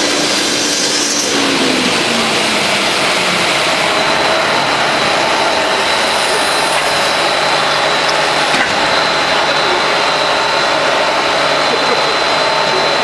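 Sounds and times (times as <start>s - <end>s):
loud machinery noise: 0.0s - 13.0s
thin machine whines: 0.0s - 13.0s.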